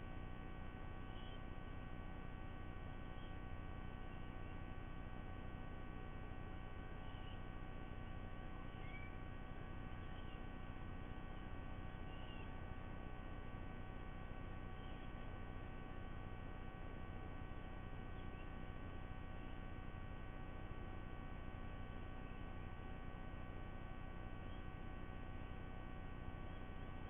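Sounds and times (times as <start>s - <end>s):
steady electrical hum: 0.0s - 27.0s
faint high bird chirps: 0.3s - 27.0s.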